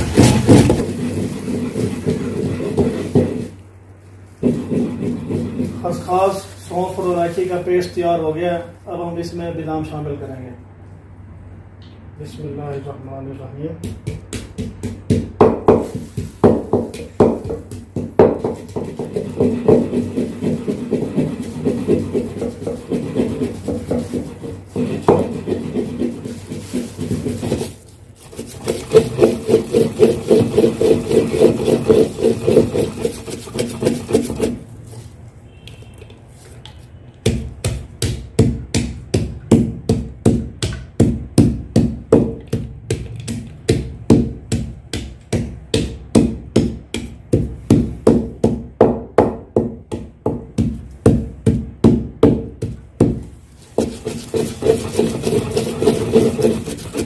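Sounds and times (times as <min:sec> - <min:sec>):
wooden pestle grinding paste: 0:00.0 - 0:03.6, 0:04.4 - 0:07.5, 0:13.8 - 0:35.2, 0:36.4 - 0:57.0.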